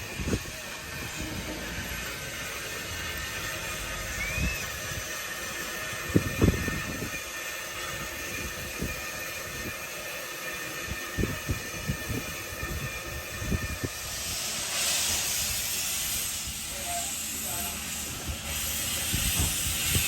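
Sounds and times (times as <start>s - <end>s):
steam hissing: 0.0s - 20.0s
steam train running: 0.0s - 20.0s.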